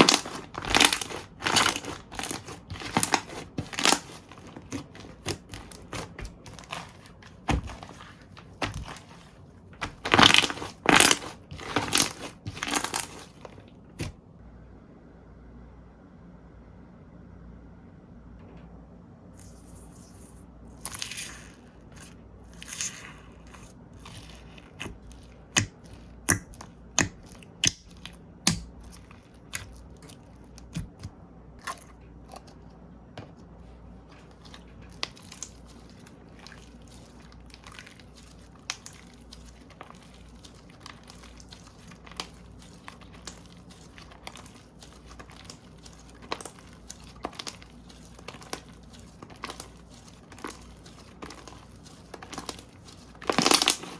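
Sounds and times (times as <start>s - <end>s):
slime popping and crackling: 0.0s - 14.1s, 20.8s - 32.5s, 34.2s - 53.9s.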